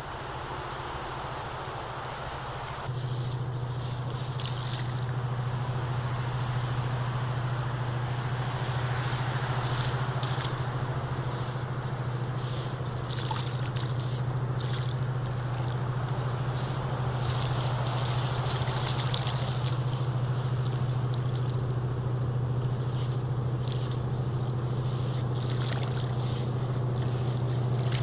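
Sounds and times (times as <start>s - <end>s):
low motor drone: 0.0s - 28.0s.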